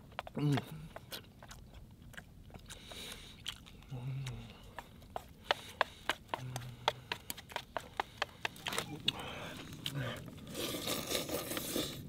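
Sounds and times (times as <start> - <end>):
mouth clicks and smacks chewing: 0.0 - 12.0.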